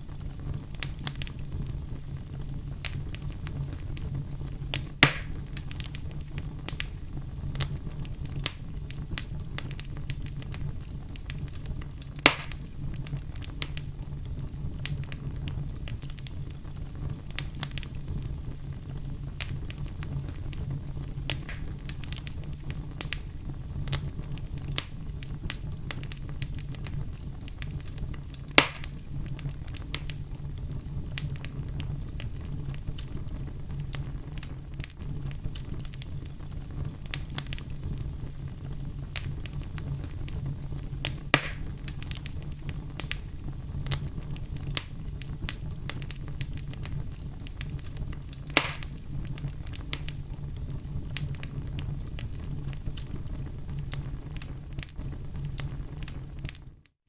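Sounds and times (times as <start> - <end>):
loud fire pops: 0.0 - 56.9
fire crackling in a fireplace: 0.0 - 57.0.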